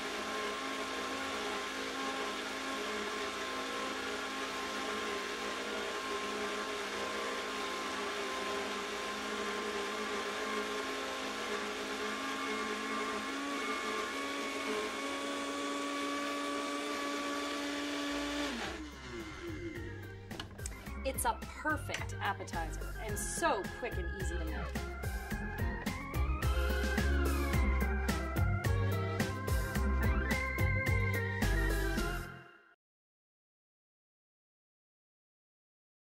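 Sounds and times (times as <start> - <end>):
blender motor whining: 0.0 - 32.4.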